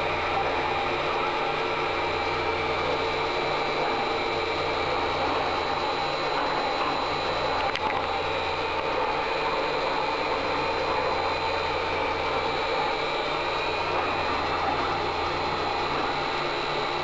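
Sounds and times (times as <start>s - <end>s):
cooling fans whirring: 0.0s - 17.0s.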